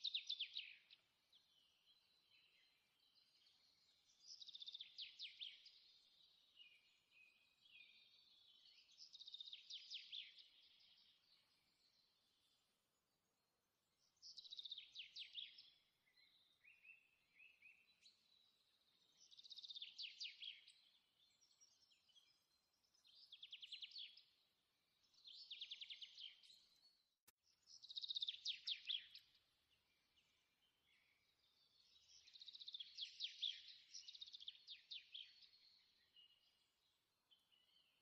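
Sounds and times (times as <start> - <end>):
soft bird chirps: 0.0 - 38.0.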